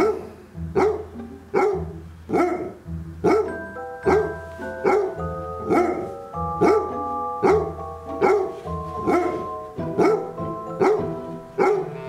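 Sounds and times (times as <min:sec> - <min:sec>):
background music: 0:00.0 - 0:12.0
dog barking: 0:00.0 - 0:12.0.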